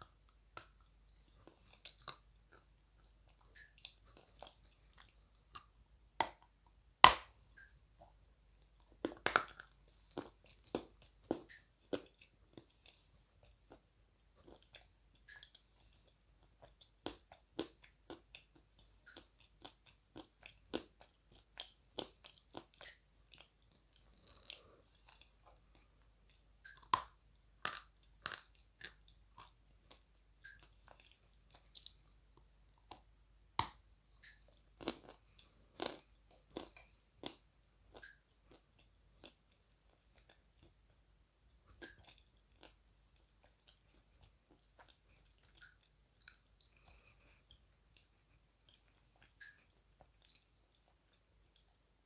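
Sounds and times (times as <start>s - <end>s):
crunchy chewing: 0.6s - 6.4s, 8.8s - 32.2s, 33.6s - 41.0s, 41.7s - 51.8s.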